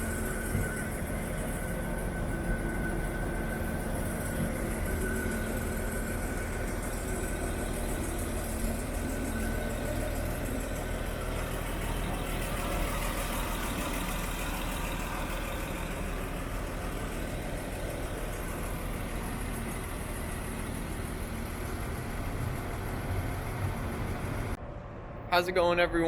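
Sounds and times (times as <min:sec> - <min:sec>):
truck engine idling: 0:00.0 - 0:24.6.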